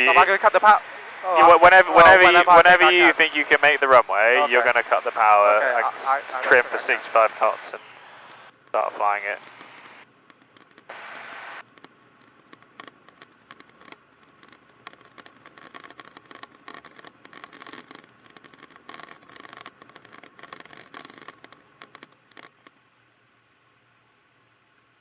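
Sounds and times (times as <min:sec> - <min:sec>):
headset intercom crackling: 0:00.0 - 0:22.7.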